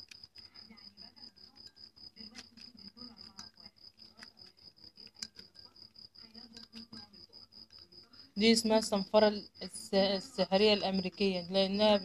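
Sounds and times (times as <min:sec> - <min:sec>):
cricket chirping: 0:00.0 - 0:12.0
spoon stirring paste in glass bowl: 0:00.0 - 0:12.0.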